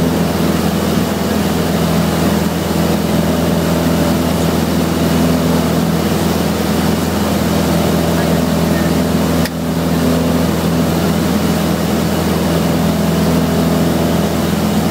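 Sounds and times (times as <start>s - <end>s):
light airplane engine drone: 0.0s - 14.9s.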